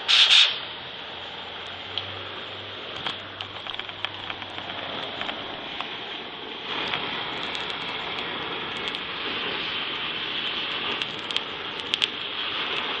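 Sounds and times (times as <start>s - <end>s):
crackles and pops of burning: 0.0s - 0.7s, 1.5s - 13.0s
gas torch flame hissing: 0.0s - 13.0s.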